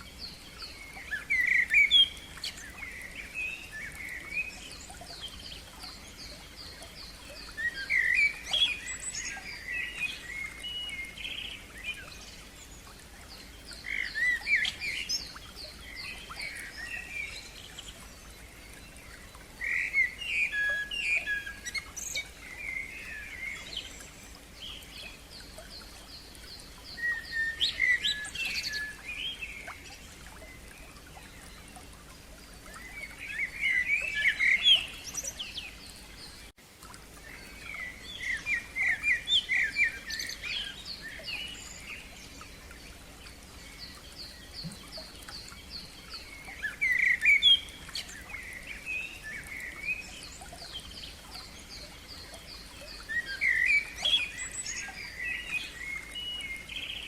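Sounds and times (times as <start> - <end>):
running stream: 0.0 - 57.0
songbirds chirping and trilling: 0.0 - 57.0.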